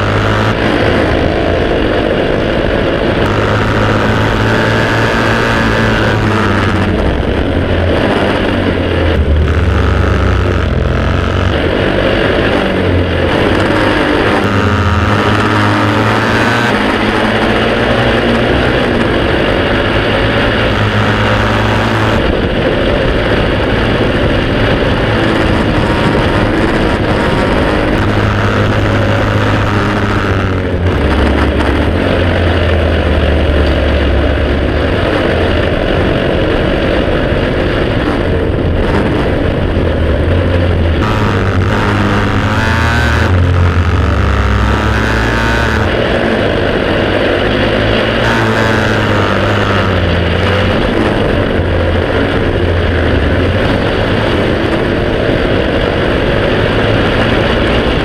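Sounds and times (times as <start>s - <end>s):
motorcycle engine running hard: 0.0s - 58.0s
wind rush: 0.0s - 58.0s.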